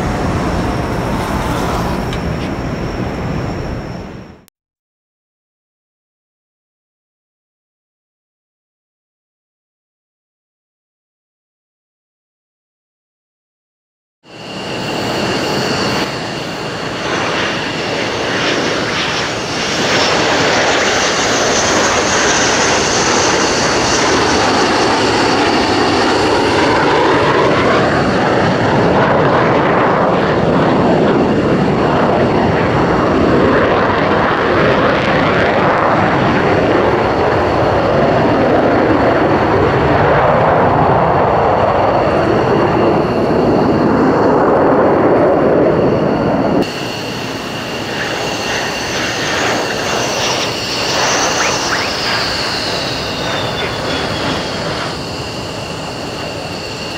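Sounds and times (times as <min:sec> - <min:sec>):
jet fighter flying past: 0:00.0 - 0:04.5, 0:14.2 - 0:56.9.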